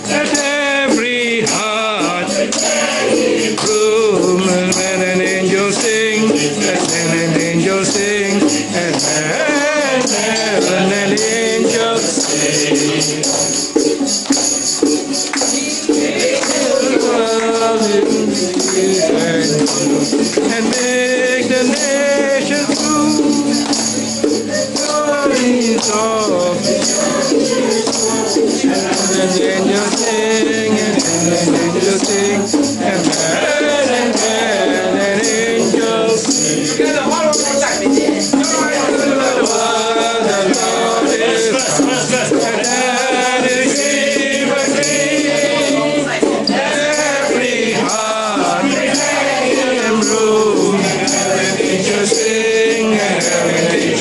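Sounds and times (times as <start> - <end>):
group singing a carol: 0.0 - 54.0
tambourine jingling: 0.0 - 54.0.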